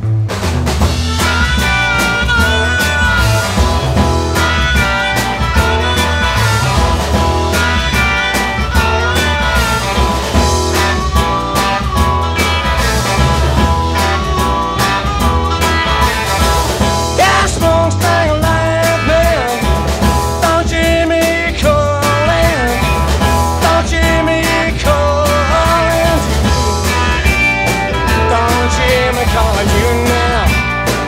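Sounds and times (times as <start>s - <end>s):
blues-rock band playing live: 0.0s - 31.0s
electric guitar lead bending: 0.0s - 31.0s.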